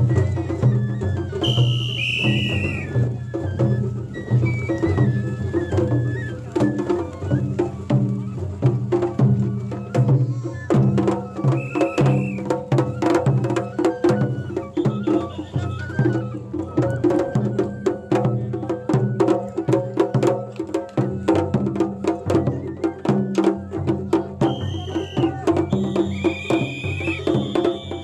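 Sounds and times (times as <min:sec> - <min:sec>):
festival drums and percussion: 0:00.0 - 0:28.0.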